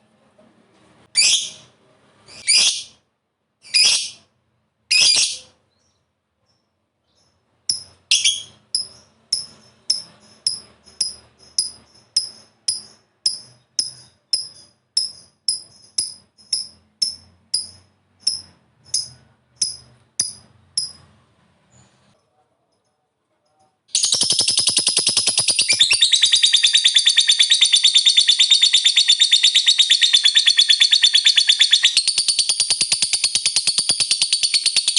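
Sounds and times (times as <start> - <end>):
lovebird chirping: 1.2 - 3.0, 3.6 - 4.3, 4.9 - 22.2, 23.9 - 34.9.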